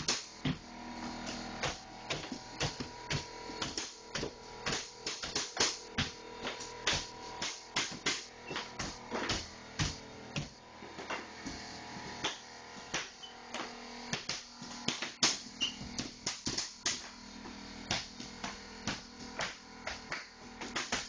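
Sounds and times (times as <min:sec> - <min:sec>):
flooring nailer knocks: 0:00.0 - 0:11.6, 0:12.2 - 0:21.0.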